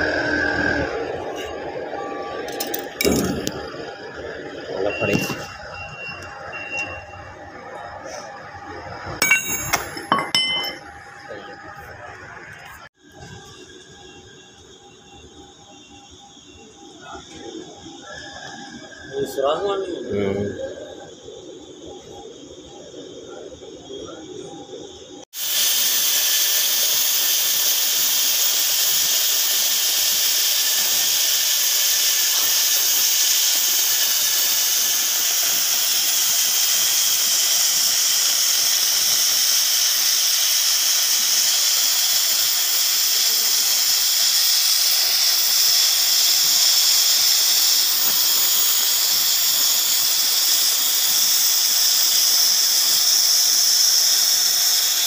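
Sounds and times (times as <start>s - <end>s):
cutting torch hissing: 0.0s - 55.0s.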